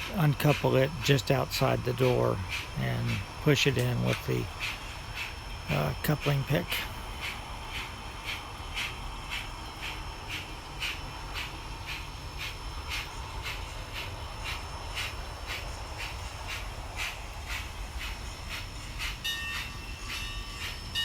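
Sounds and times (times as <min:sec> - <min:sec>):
steam locomotive chuffing beat: 0:00.0 - 0:21.0.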